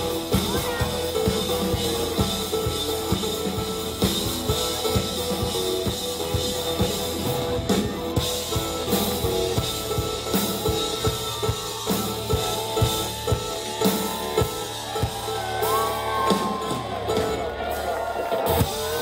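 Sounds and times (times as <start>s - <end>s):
drum kit beat: 0.0s - 19.0s
electric guitar: 0.0s - 19.0s
live band playing: 0.0s - 19.0s.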